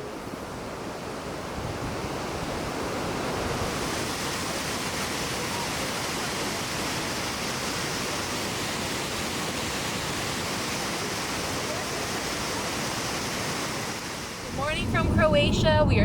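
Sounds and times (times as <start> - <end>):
waterfall roaring: 0.7 - 16.0.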